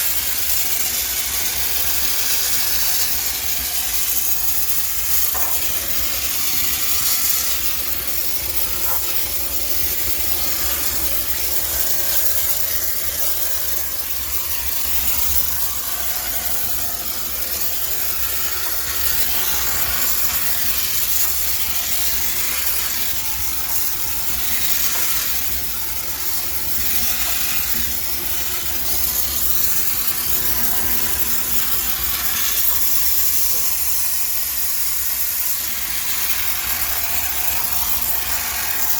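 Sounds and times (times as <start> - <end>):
steam cleaner hissing: 0.0 - 38.9.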